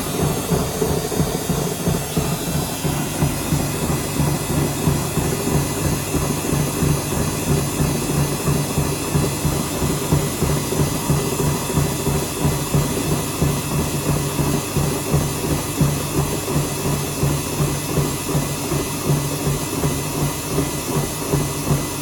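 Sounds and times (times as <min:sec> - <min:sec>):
washing machine drum humming: 0:00.0 - 0:22.0.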